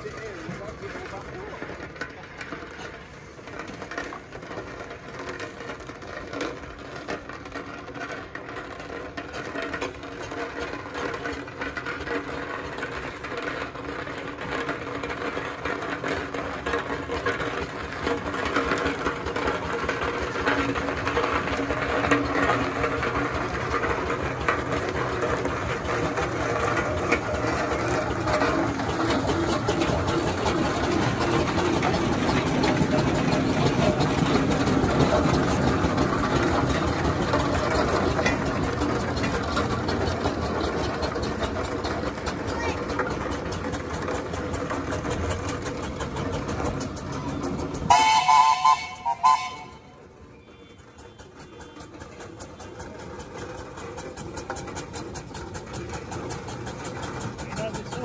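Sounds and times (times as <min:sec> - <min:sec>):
steam roller engine chuffing: 0:00.0 - 0:58.0.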